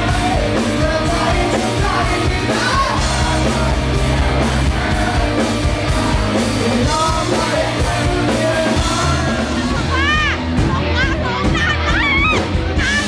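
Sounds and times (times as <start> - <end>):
drum kit: 0.0 - 13.0
electric guitars: 0.0 - 13.0.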